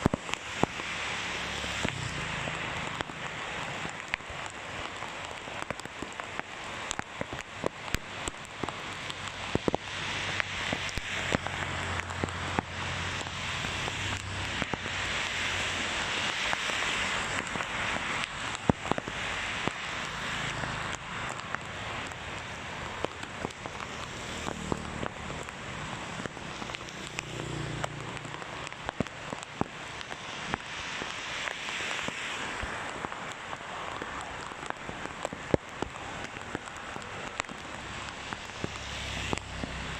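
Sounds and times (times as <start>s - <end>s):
heavy rain on pavement: 0.0s - 39.9s
vehicles passing on wet road: 0.0s - 39.9s.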